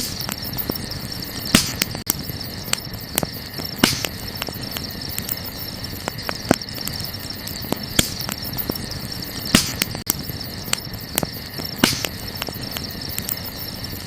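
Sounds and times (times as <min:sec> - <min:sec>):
campfire crackling and popping: 0:00.0 - 0:14.0
night insects chorus: 0:00.0 - 0:14.0.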